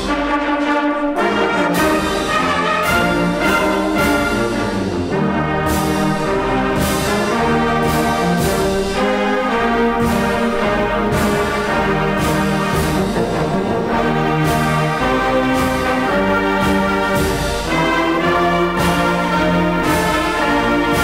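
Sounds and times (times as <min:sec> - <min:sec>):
brass band music: 0:00.0 - 0:21.0.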